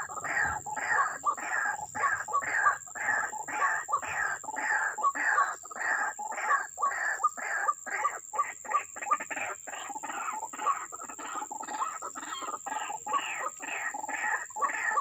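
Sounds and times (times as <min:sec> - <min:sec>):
waterhen croaking calls: 0:00.0 - 0:15.0.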